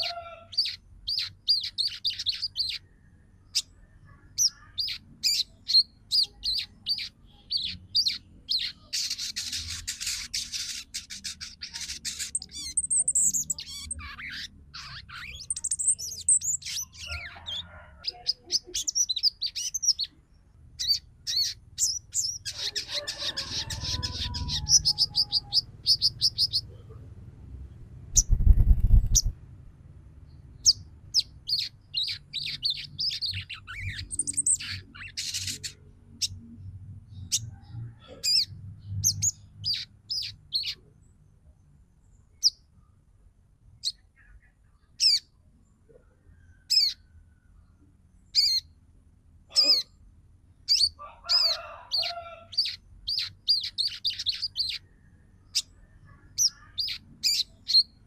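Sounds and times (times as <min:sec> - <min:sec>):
bird chirps and trills: 0:00.0 - 0:27.0, 0:28.1 - 0:29.4, 0:30.3 - 0:40.9, 0:43.8 - 0:45.3, 0:46.6 - 0:47.1, 0:48.3 - 0:48.8, 0:50.6 - 0:54.9, 0:55.5 - 0:58.0.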